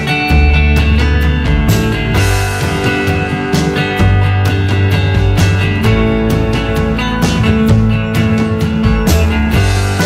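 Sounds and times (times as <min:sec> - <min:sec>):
guitar-led song: 0:00.0 - 0:10.0.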